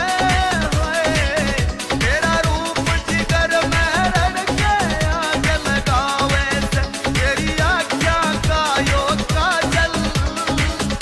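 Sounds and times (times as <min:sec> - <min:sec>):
pop dance song: 0:00.0 - 0:11.0.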